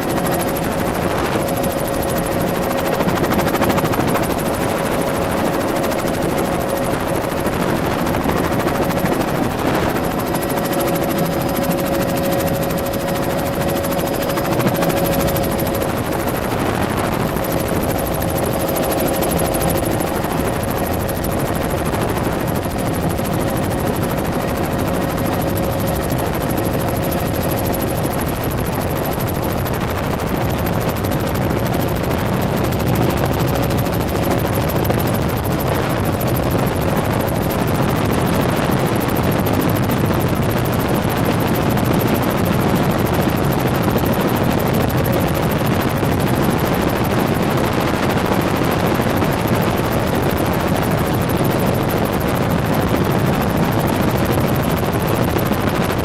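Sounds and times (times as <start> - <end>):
helicopter engine and rotors droning: 0.0 - 56.0
steady whine: 0.0 - 56.0.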